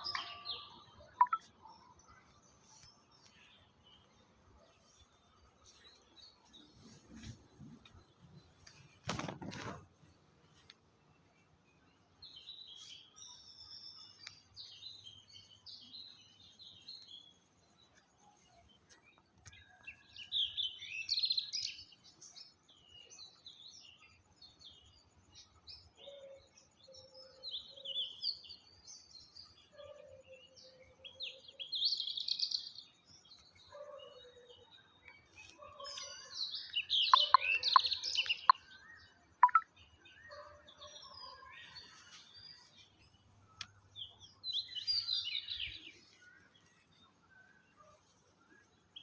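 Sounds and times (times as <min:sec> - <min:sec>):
songbirds twittering: 0:00.0 - 0:49.0.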